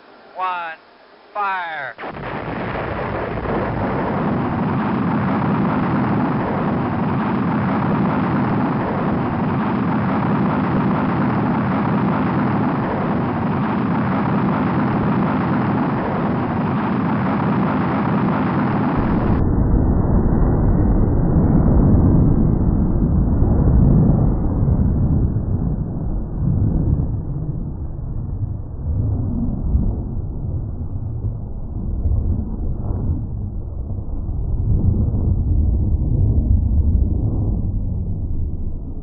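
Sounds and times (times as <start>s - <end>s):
rocket engine rumble: 0.0s - 39.0s.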